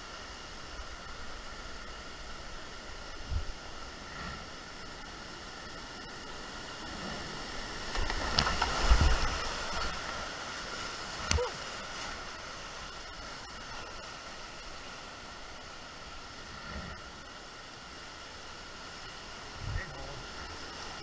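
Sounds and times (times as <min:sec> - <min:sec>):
whitewater rapids rushing: 0:00.0 - 0:21.0.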